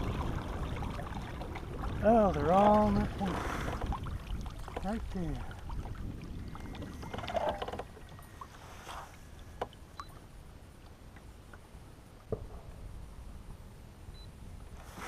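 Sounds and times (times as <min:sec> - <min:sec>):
low steady rumble: 0:00.0 - 0:14.9.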